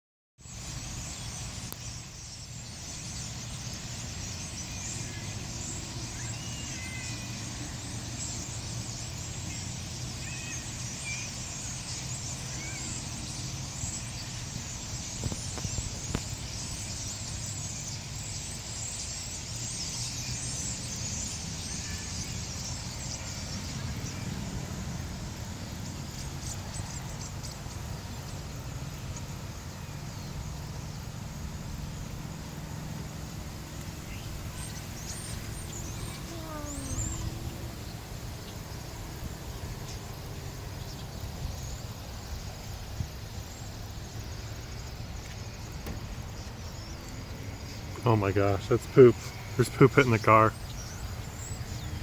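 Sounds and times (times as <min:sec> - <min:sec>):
flock of birds chattering: 0:00.5 - 0:52.0.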